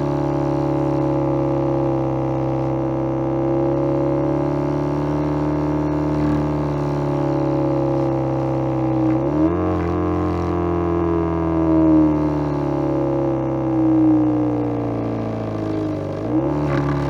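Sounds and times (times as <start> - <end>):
electronic engine exhaust drone: 0.0 - 17.0.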